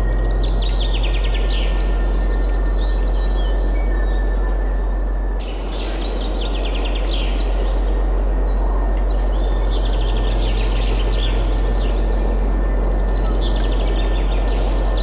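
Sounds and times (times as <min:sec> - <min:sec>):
songbirds trilling and chirping: 0:00.0 - 0:15.0
wind rumbling: 0:00.0 - 0:15.0.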